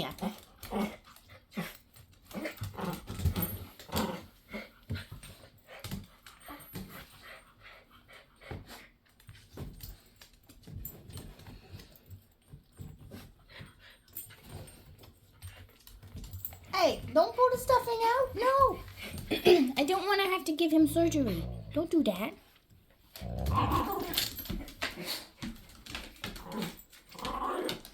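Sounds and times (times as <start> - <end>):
dogs growling and tussling: 0.0 - 9.7, 10.6 - 27.9.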